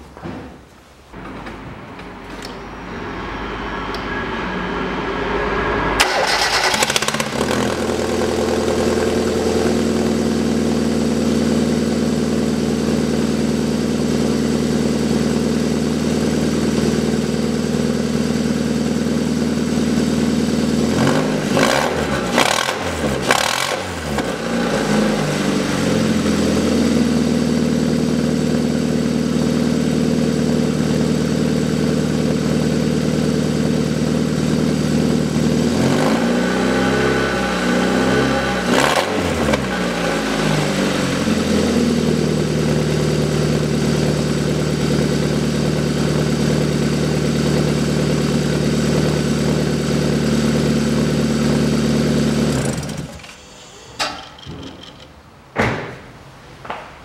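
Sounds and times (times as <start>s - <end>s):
car engine starting and idling: 1.2s - 55.4s.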